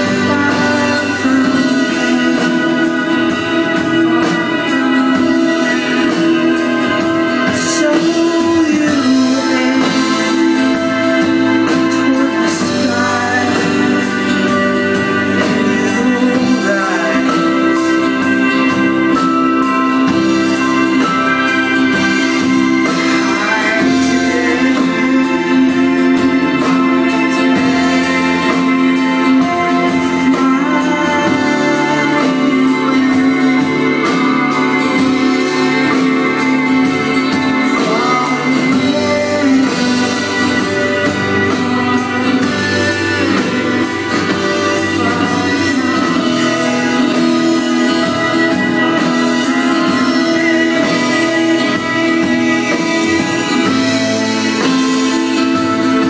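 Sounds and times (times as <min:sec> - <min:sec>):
slow rock band music: 0:00.0 - 0:56.0.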